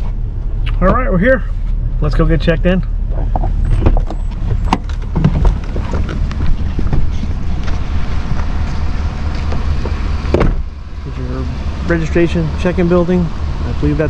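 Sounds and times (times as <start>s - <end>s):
vehicle rumbling driving slowly: 0.0s - 14.0s.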